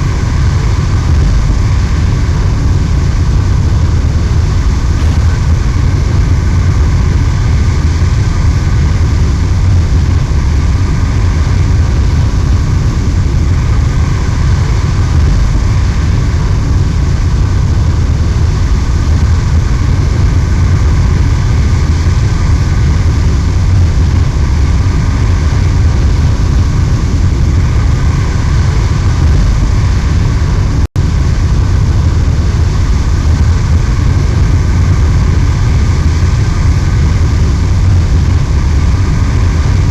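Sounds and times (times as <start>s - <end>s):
jet engine noise: 0.0s - 39.9s.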